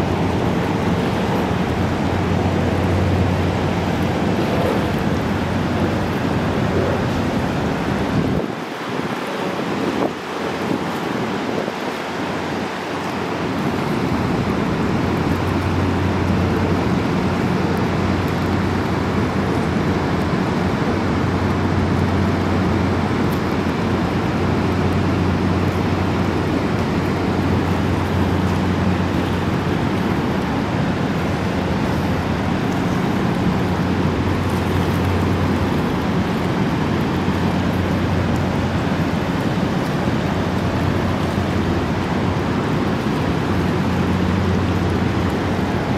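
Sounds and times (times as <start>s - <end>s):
rapids roaring: 0.0s - 45.9s.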